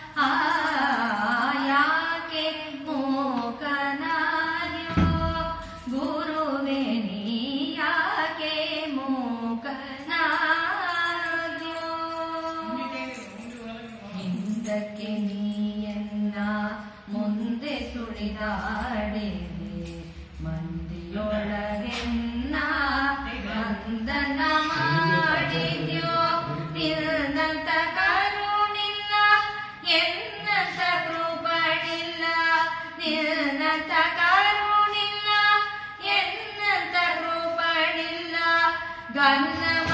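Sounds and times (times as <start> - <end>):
woman singing devotional song: 0.0 - 39.9.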